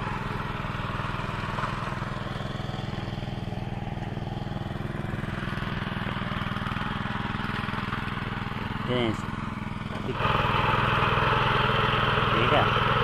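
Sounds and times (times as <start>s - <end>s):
power tiller engine running: 0.0s - 13.0s.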